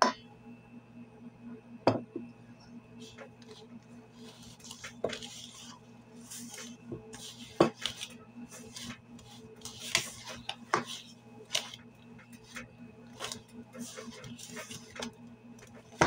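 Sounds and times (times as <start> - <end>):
whisk scraping steel bowl: 3.1 - 16.0.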